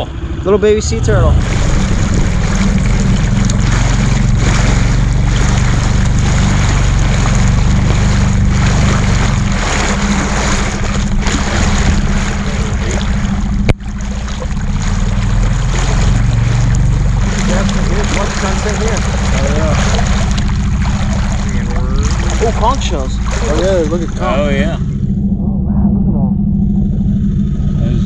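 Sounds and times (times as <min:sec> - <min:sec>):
outboard motor running: 0:00.0 - 0:28.0
water rushing along hull: 0:00.0 - 0:28.0.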